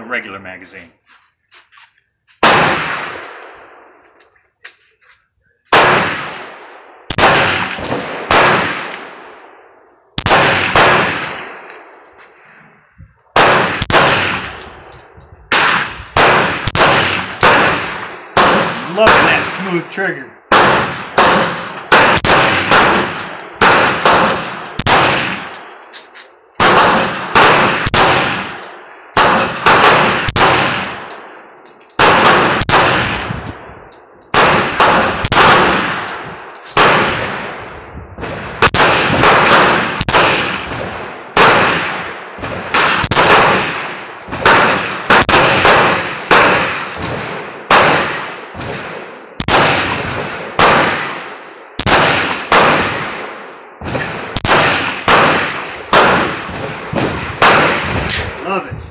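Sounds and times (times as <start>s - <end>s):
pistol shots: 2.4s - 3.9s, 5.7s - 9.4s, 10.2s - 11.9s, 13.3s - 26.0s, 26.6s - 37.6s, 38.2s - 58.4s.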